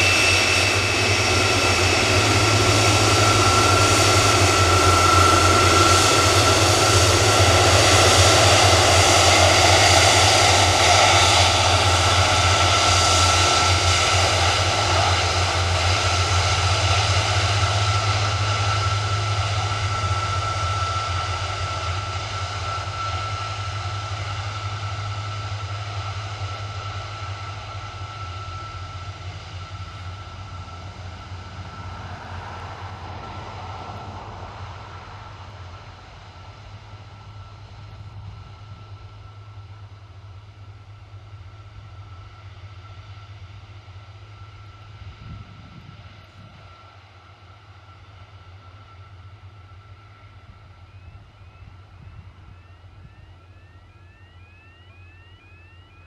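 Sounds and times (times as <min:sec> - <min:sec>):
jet engines whining and roaring: 0:00.0 - 0:56.0.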